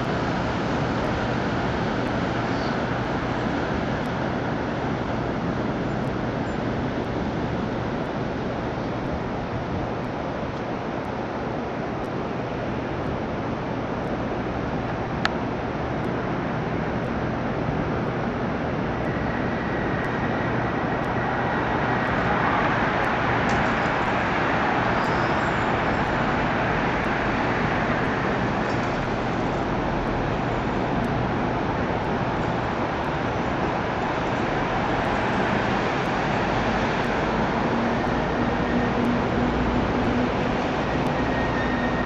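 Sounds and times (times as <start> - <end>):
city traffic hiss and rumble: 0.0 - 42.0
faint high whine: 0.0 - 42.0.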